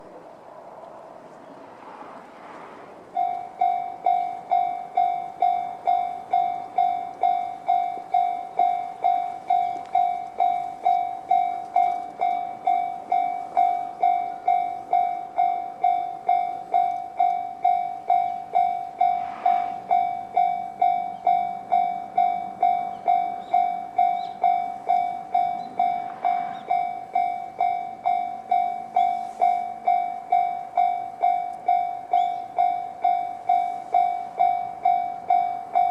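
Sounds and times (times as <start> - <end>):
electronic level crossing bell: 3.2 - 35.9.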